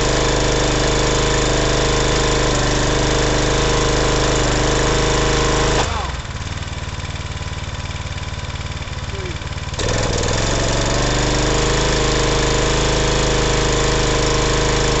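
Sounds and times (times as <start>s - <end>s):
pressure washer running: 0.0s - 15.0s.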